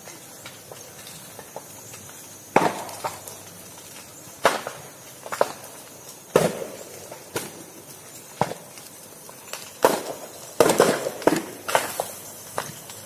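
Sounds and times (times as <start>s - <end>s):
bamboo stalks bursting with bangs: 0.0s - 12.9s
small pops from burning bamboo: 0.0s - 13.0s.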